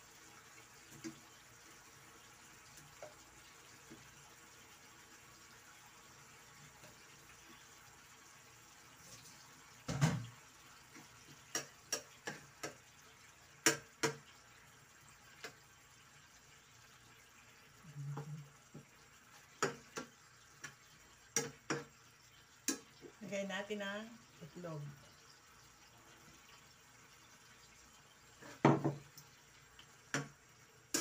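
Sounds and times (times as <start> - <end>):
sauce simmering: 0.0 - 31.0.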